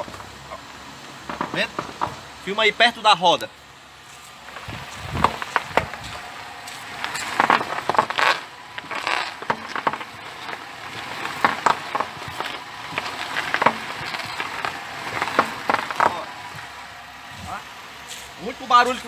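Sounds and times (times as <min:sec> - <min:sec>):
tyre crunching over gravel: 0:01.2 - 0:02.3, 0:04.0 - 0:19.0.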